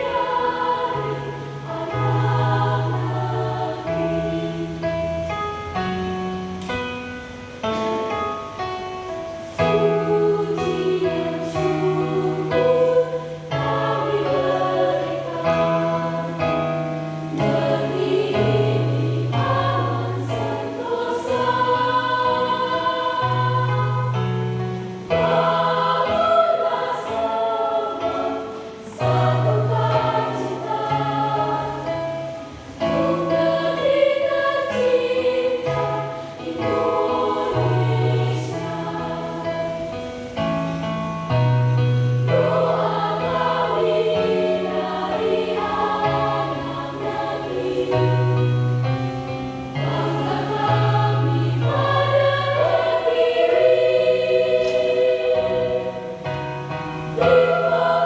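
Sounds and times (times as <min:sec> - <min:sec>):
choir singing: 0:00.0 - 0:06.0, 0:09.3 - 0:58.0.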